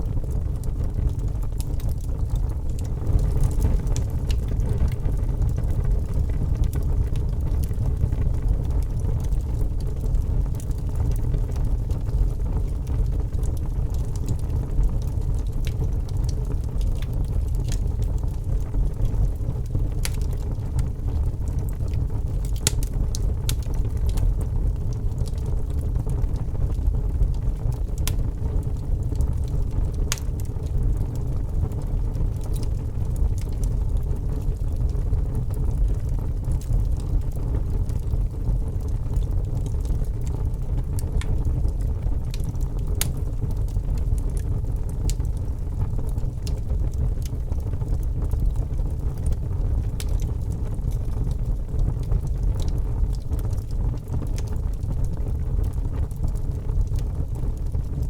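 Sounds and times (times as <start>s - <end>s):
fire flames burning: 0.0s - 58.0s
wood crackling and popping: 0.0s - 58.0s.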